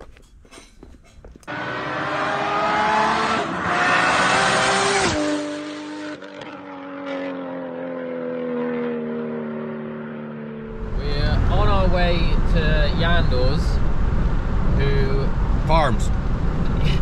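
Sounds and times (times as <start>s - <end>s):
car engine accelerating: 1.4s - 17.0s.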